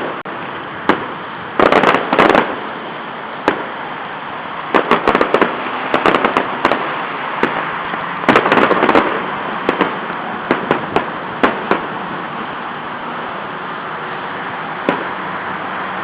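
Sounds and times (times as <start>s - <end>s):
fireworks bangs and pops: 0.0s - 3.9s, 4.6s - 15.7s.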